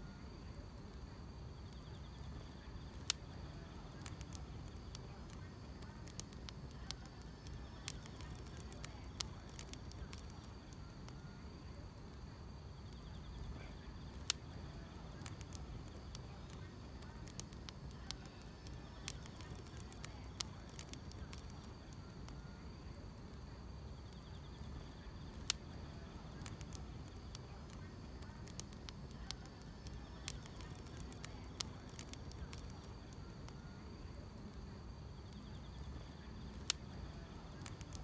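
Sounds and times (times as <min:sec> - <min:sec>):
wood fire crackling and popping: 0:00.2 - 0:38.0.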